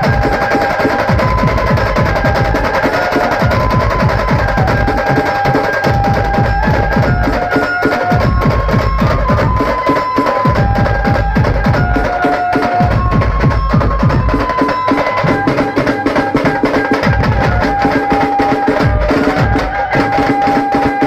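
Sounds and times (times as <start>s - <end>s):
band melody of held notes: 0.0s - 21.0s
fast dense drumming: 0.0s - 21.0s.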